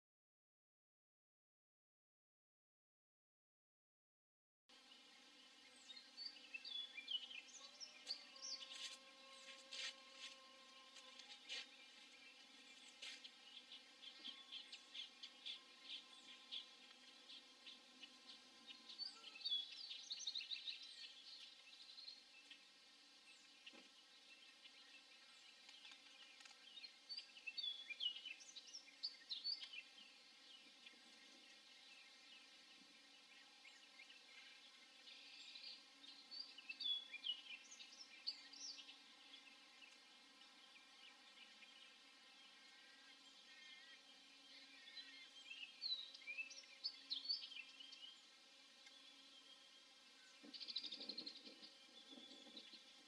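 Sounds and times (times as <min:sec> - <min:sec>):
birds chirping: 0:04.7 - 0:53.0
low steady background hiss: 0:04.7 - 0:53.0.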